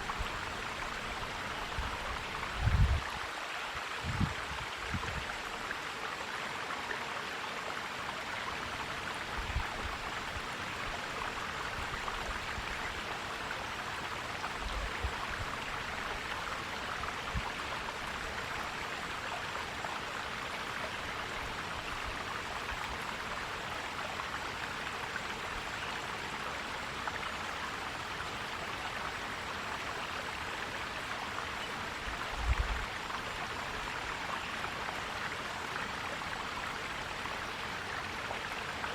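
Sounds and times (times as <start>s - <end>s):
stream flowing and gurgling: 0.0s - 38.9s.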